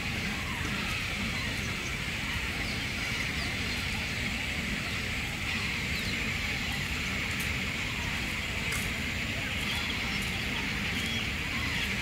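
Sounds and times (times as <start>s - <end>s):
birds chattering: 0.0s - 12.0s.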